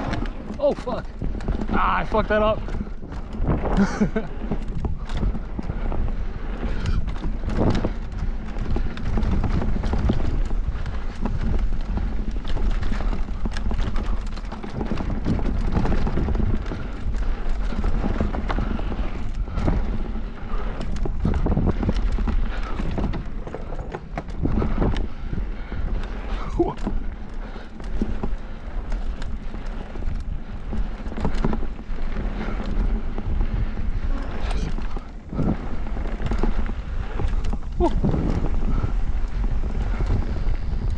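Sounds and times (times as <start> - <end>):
mountain bike clattering on rocks: 0.0 - 40.9.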